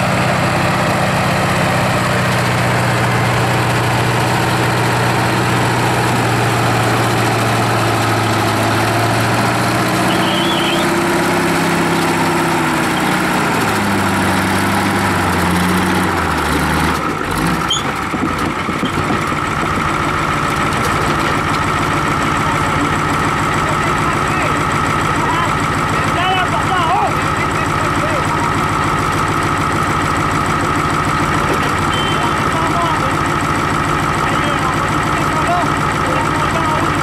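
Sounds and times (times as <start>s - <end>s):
tractor diesel engine under load: 0.0s - 37.0s
tractor engine idling: 0.0s - 37.0s.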